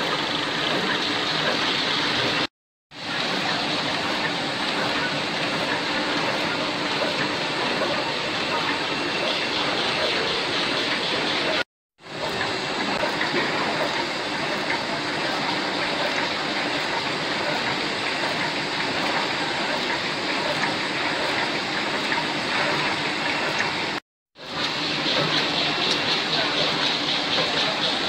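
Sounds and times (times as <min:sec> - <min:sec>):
machine rollers whirring: 0:00.0 - 0:28.0.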